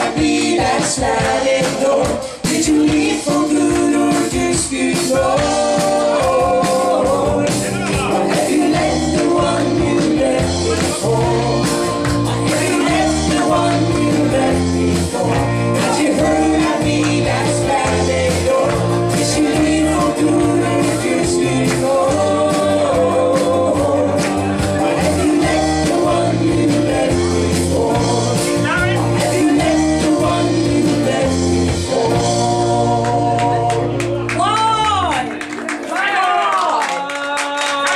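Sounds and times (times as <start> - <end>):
live country band playing: 0.0 - 35.1.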